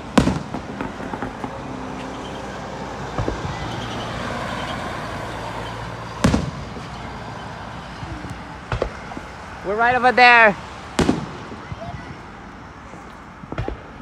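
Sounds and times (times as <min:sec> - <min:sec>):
cars passing on road: 0:00.0 - 0:14.0
fireworks bursting: 0:00.0 - 0:14.0.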